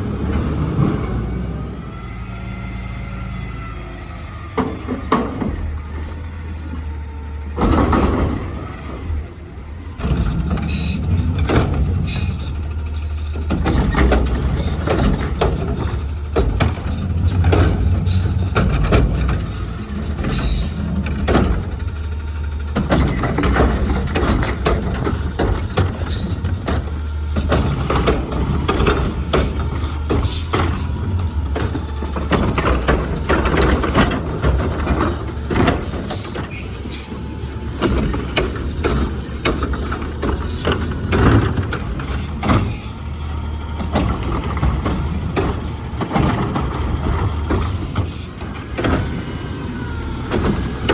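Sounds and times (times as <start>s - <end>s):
diesel engine running: 0.0s - 50.9s
metal knocks and clanks: 4.5s - 6.9s, 7.5s - 49.5s.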